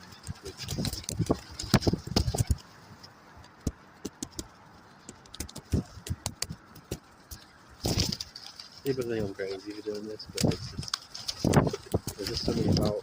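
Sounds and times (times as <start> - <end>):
pigeons pecking at feed: 0.0 - 13.0.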